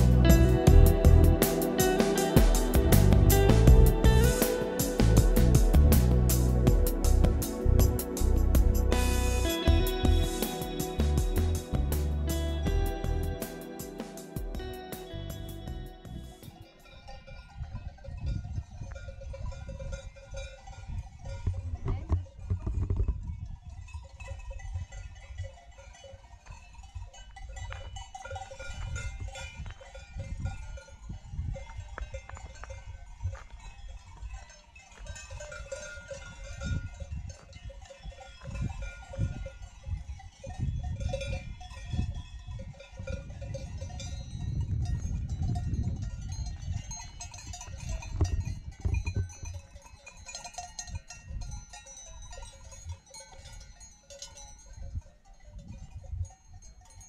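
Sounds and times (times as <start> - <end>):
livestock bells ringing: 0.0 - 5.9, 9.0 - 22.5, 23.4 - 57.0
wind rumbling on microphone: 5.1 - 10.4, 15.6 - 53.9, 54.6 - 57.0.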